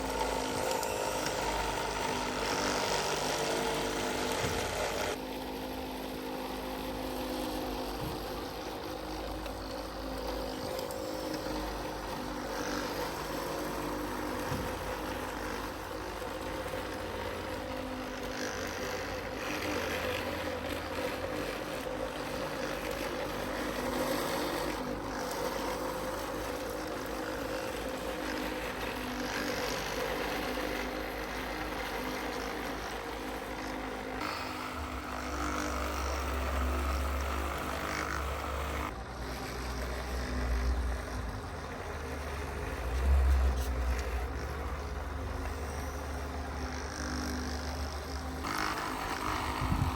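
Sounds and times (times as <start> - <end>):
model vehicle motor whine: 0.0 - 49.9.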